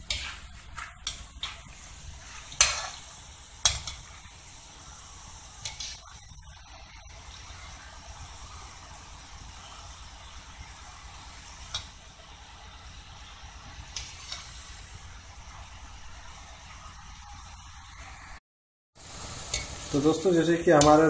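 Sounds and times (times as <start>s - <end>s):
food deep-frying in oil: 0.0s - 18.4s, 19.0s - 21.0s.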